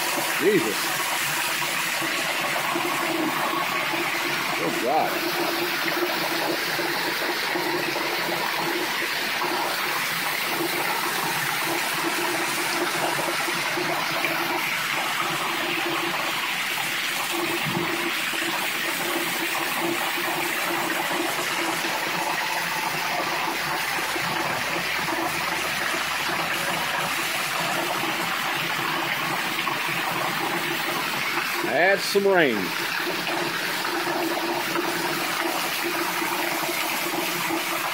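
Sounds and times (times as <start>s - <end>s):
water streaming off roof: 0.0s - 37.9s.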